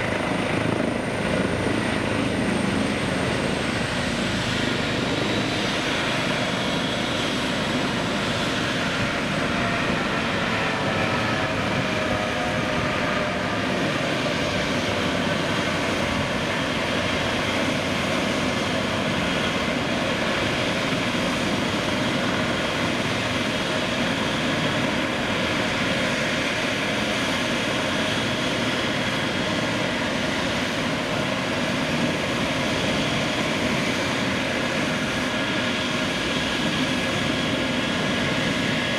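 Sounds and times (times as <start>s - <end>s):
helicopter rotor whoosh: 0.0s - 38.9s
helicopter turbine whine: 0.0s - 38.9s.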